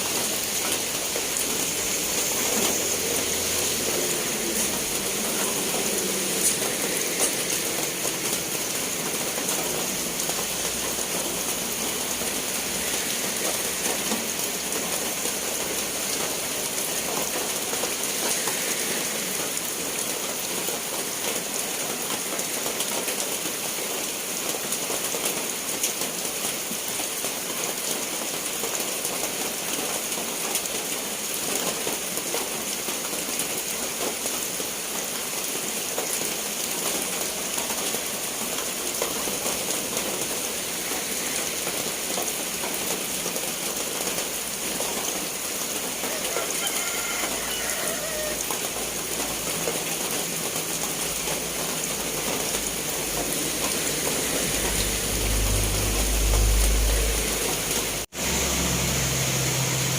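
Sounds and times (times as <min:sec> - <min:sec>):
rain pattering on surfaces: 0:00.0 - 0:59.9.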